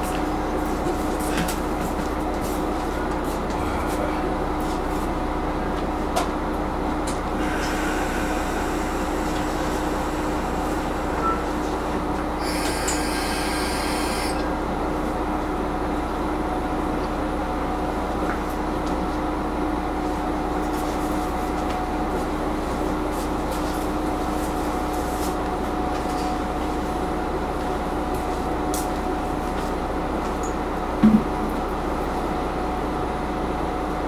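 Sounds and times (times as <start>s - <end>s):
railcar engine hum: 0.0s - 34.0s.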